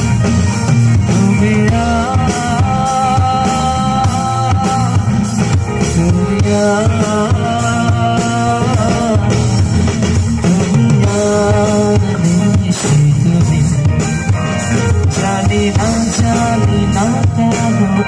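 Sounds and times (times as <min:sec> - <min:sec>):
drum kit: 0:00.0 - 0:18.0
electric guitar: 0:00.0 - 0:18.0
keyboard: 0:00.0 - 0:18.0
melody of long bending notes: 0:00.0 - 0:18.0.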